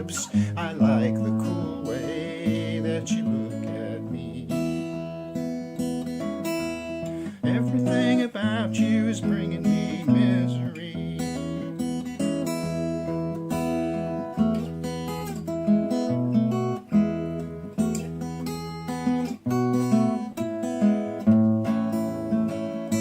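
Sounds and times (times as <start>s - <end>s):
acoustic guitar playing: 0.0s - 23.0s.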